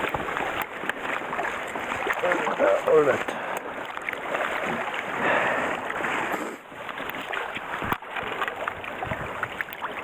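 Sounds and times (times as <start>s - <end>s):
running water: 0.0s - 10.0s
water splashing and sloshing: 0.0s - 10.0s.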